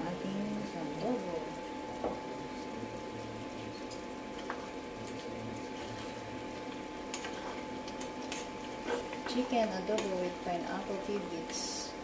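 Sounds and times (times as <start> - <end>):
faint steady hum: 0.0 - 12.0
pot simmering hiss: 0.0 - 12.0.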